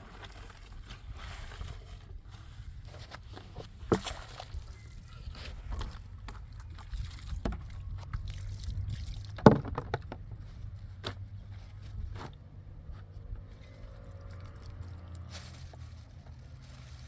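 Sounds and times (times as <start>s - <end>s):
knocks and scrapes: 0.0s - 16.1s.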